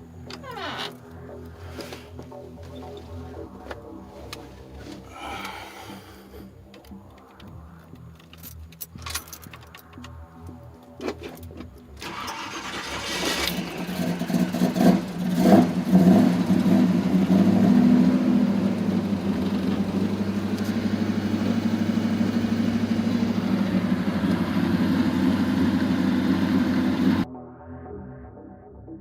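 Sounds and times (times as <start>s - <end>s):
car engine idling with lope: 0.0s - 27.2s
car engine revving: 0.0s - 27.2s.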